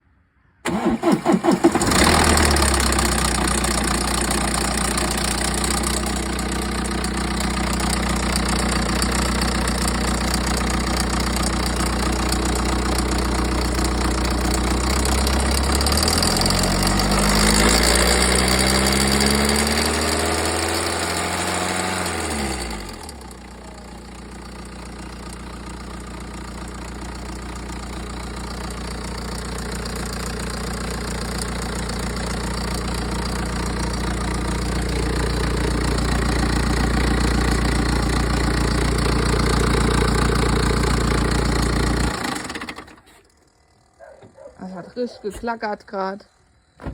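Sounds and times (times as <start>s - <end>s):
diesel engine cranking and idling: 0.6s - 46.9s.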